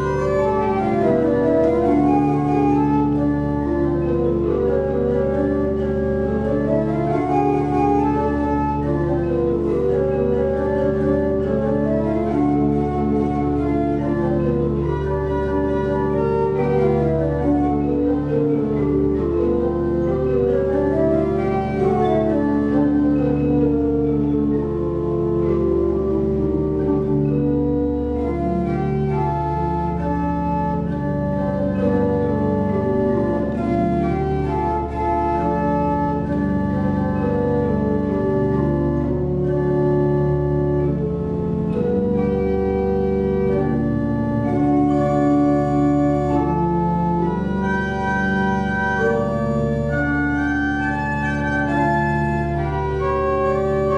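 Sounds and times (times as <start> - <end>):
pipe organ playing chords: 0.0 - 53.9.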